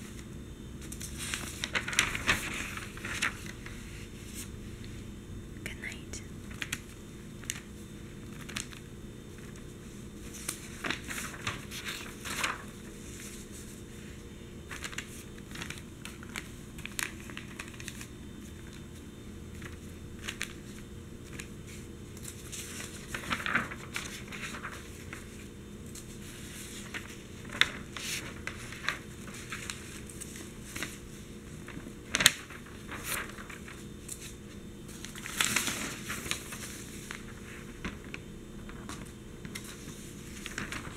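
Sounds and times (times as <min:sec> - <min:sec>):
newspaper pages rustling: 0:00.0 - 0:05.0, 0:06.4 - 0:40.9.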